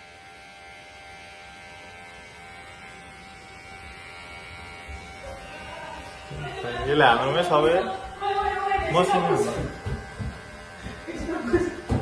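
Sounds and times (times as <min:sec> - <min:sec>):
hair clippers buzzing: 0:00.0 - 0:12.0.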